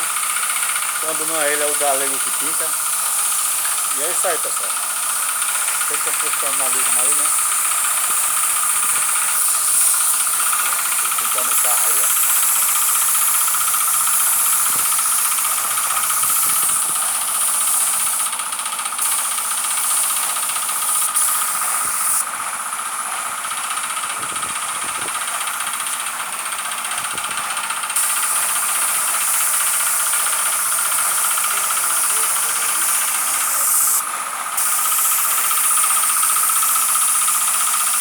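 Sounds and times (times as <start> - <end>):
paint spray gun hissing: 0.0 - 38.0.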